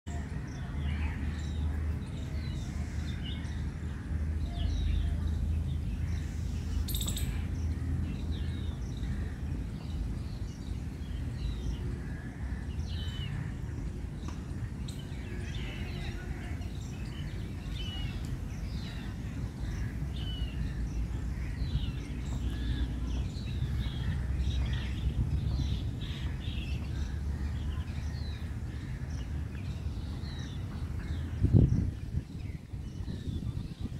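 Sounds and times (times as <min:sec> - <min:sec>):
birds chirping: 0:00.1 - 0:33.9
steady low rumble: 0:00.1 - 0:33.9.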